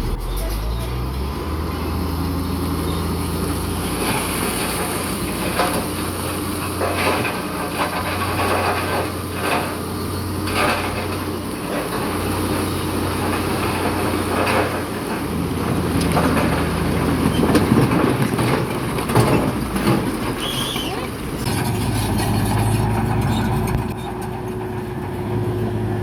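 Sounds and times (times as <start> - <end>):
diesel engine running under load: 0.0 - 26.0
metal tracks clanking and scraping: 0.0 - 26.0.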